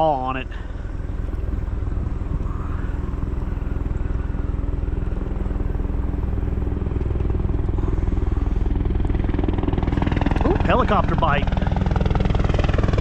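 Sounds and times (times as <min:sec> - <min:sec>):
small engine puttering: 0:00.5 - 0:13.0.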